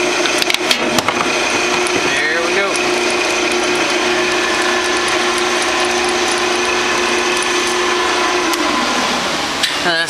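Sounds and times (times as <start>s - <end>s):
metal lathe humming and whirring: 0.0s - 10.0s.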